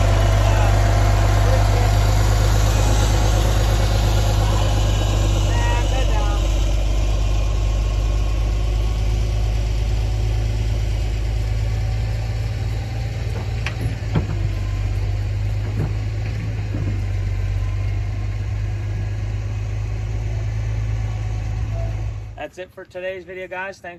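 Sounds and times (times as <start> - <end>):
engine idling: 0.0 - 22.4.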